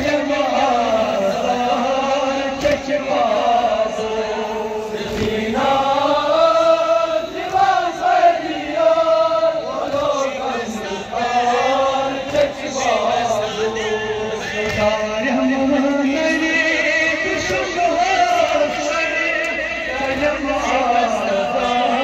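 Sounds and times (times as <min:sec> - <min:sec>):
men chanting a lament: 0:00.0 - 0:22.0.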